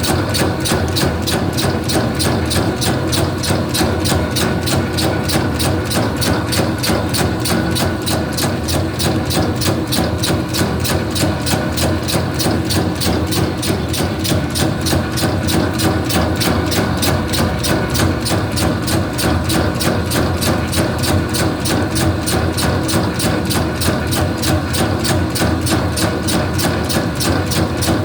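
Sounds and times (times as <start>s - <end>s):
machine mechanism clacking: 0.0s - 28.0s
steady motor hum: 0.0s - 28.0s.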